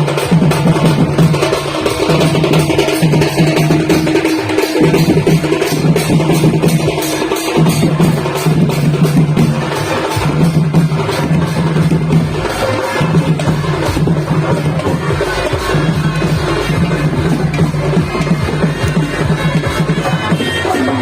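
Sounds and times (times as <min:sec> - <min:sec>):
driving drum beat: 0:00.0 - 0:21.0.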